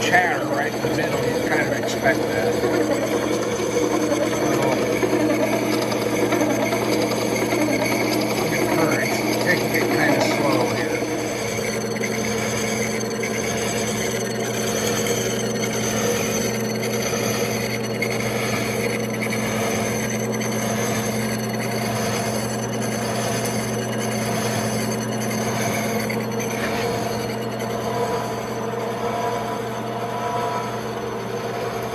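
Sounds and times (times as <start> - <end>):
milling machine drone: 0.0 - 31.9.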